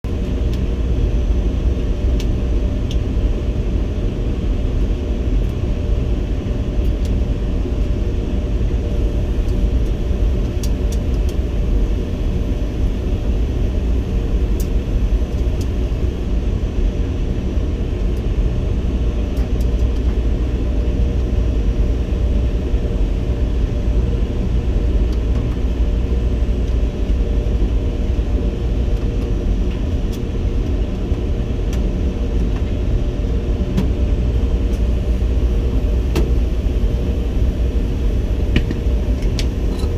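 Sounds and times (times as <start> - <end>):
tumble dryer rumbling: 0.0 - 39.9.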